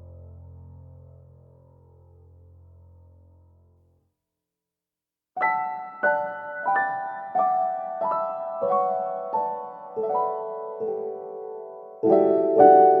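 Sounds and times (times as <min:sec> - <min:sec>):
slow piano melody: 0:00.0 - 0:03.9, 0:05.4 - 0:13.0.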